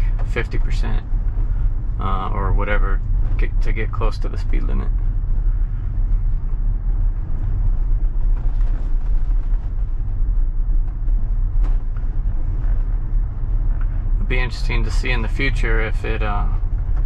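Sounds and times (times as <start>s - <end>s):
tyres rumbling on dirt road: 0.0s - 17.0s.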